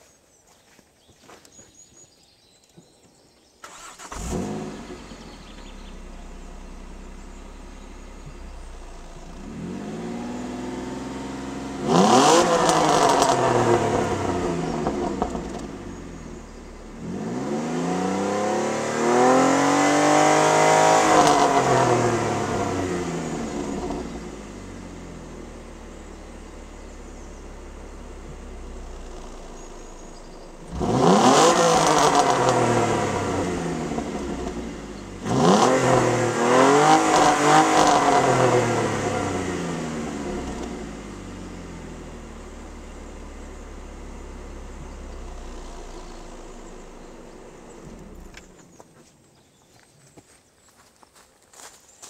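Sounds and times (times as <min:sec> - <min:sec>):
car engine starting and revving: 0:03.6 - 0:48.8.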